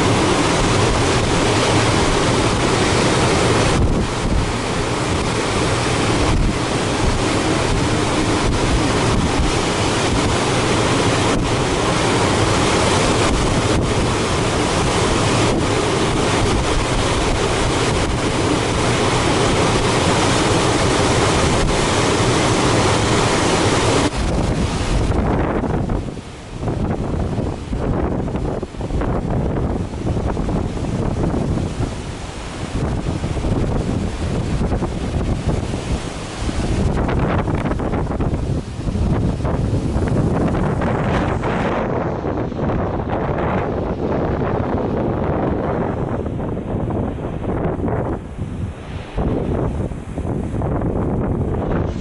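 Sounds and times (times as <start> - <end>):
strong wind buffeting microphone: 0.0 - 52.0.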